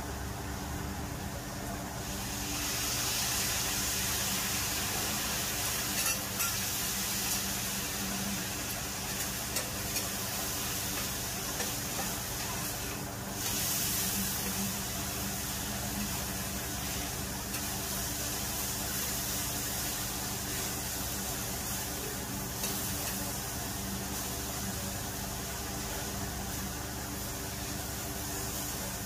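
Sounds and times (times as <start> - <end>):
meat sizzling on griddle: 2.0 - 29.0.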